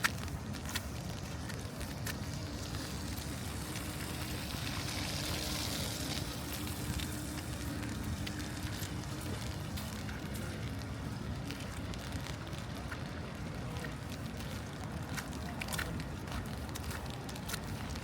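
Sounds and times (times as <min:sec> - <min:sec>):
steady street hiss: 0:00.0 - 0:18.0
tyres swishing on wet road: 0:00.0 - 0:18.0.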